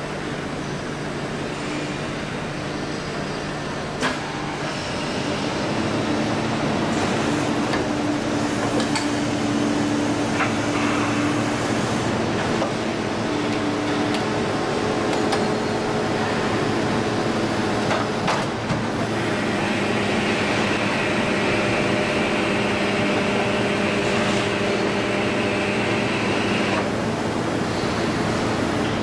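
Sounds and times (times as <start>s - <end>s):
moulding machine humming: 0.1s - 29.0s.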